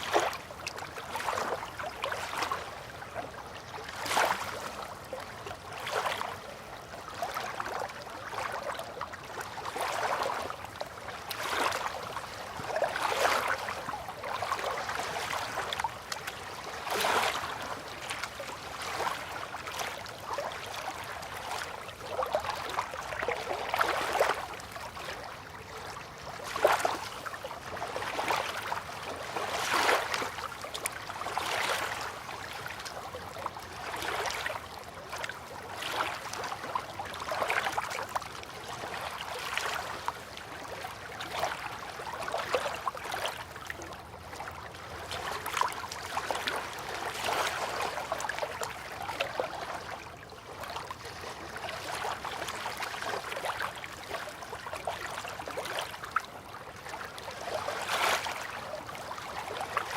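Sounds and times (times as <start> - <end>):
water lapping at a bank: 0.0 - 59.9.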